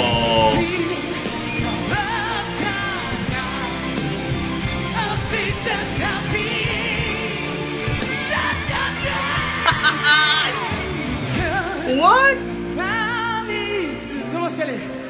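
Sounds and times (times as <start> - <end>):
man singing: 0.0 - 4.0, 4.8 - 15.0
rock band playing: 0.0 - 13.5
drums: 0.0 - 14.1.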